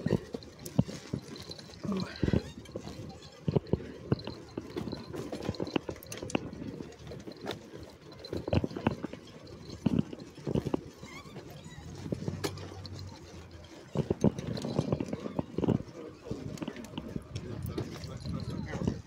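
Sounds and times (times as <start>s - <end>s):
wheelchair rolling on gravel: 0.0s - 19.0s.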